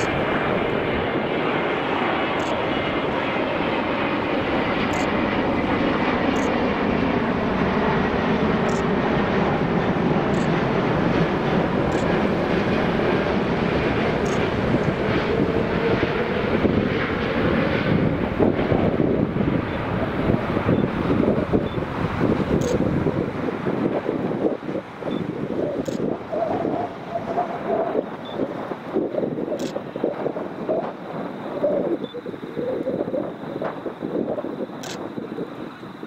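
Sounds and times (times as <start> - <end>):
jet engine rumble with whine: 0.0 - 36.0.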